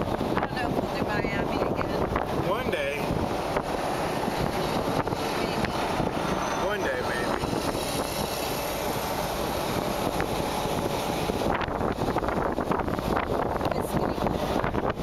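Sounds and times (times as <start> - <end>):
road and wind noise inside car: 0.0 - 15.0
wind buffeting microphone: 0.0 - 15.0.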